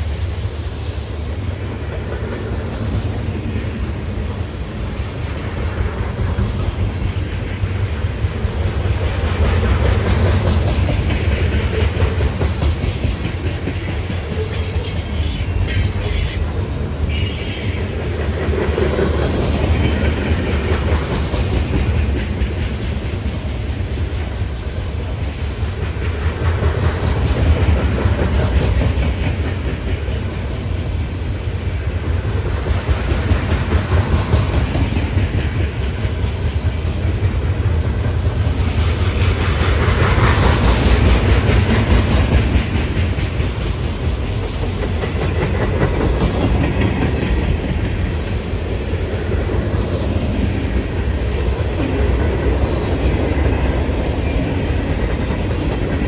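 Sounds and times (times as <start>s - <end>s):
freight train rumbling: 0.0s - 56.0s
wheels clacking over rail joints: 1.9s - 31.4s, 32.0s - 56.0s.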